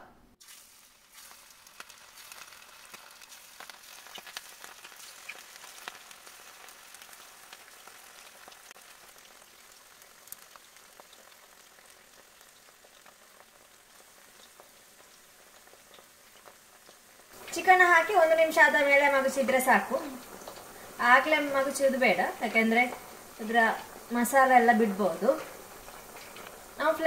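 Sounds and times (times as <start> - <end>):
chicken frying in hot oil: 0.4 - 27.0.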